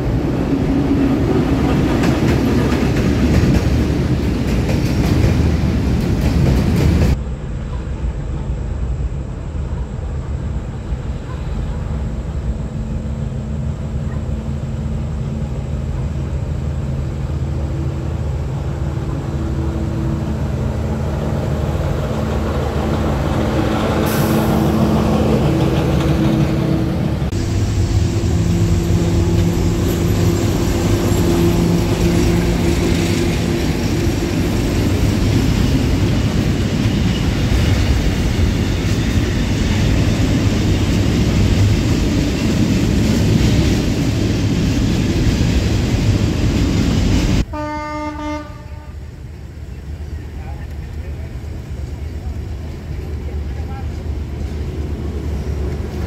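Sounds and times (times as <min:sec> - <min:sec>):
diesel locomotive engine drone: 0:00.0 - 0:56.0
freight cars rumbling on rails: 0:00.0 - 0:56.0.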